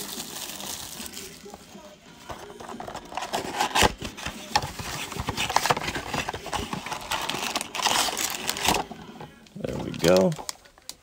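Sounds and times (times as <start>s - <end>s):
cardboard and paper rubbing and crackling: 0.0s - 10.6s.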